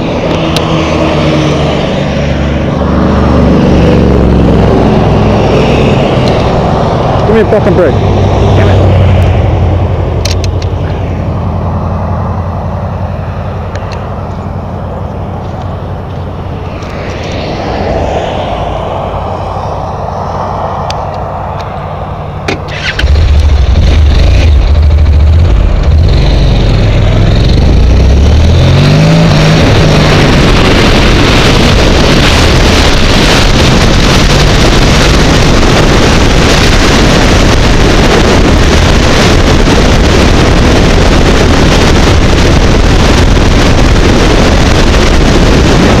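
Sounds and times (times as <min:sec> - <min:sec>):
motorcycle engine accelerating: 0:00.0 - 0:46.0
wind rushing on camera: 0:00.0 - 0:46.0.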